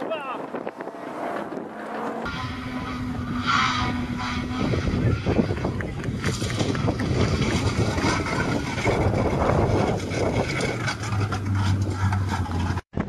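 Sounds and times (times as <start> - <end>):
car engine at high revs: 0.0 - 12.8
wind noise on microphone: 0.0 - 13.0.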